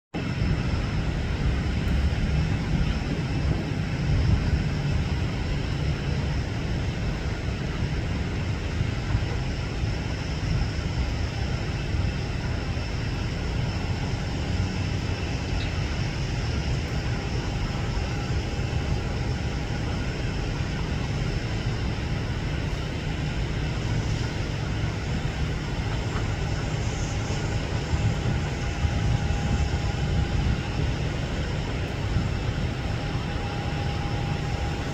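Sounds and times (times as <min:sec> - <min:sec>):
jet engines rumbling: 0:00.2 - 0:34.9.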